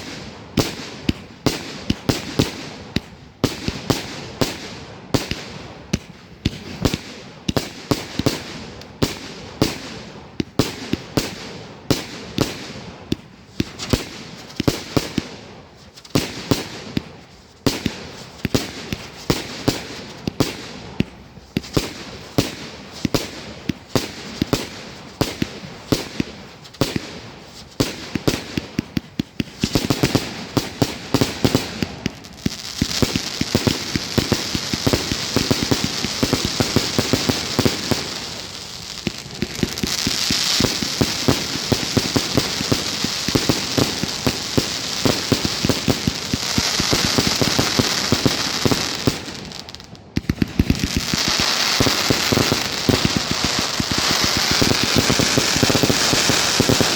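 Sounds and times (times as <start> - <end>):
fireworks bangs and cracks: 0.0 - 56.9
fireworks crackling with hiss: 0.0 - 56.9.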